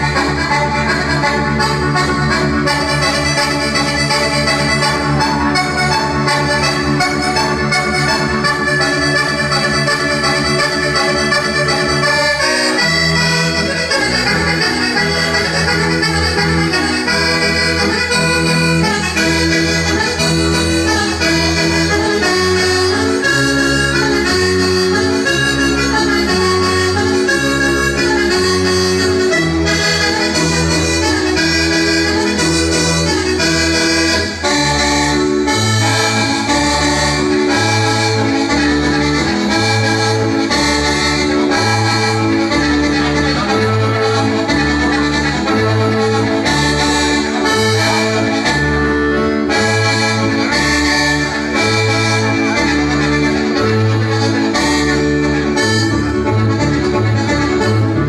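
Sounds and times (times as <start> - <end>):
button accordion dance tune: 0.0 - 58.0.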